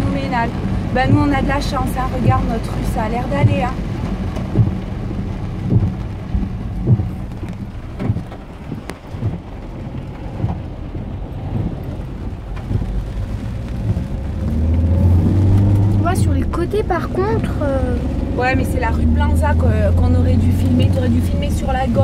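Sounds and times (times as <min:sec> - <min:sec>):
car driving on wet road: 0:00.0 - 0:22.0
rain pattering on car roof: 0:00.0 - 0:22.0.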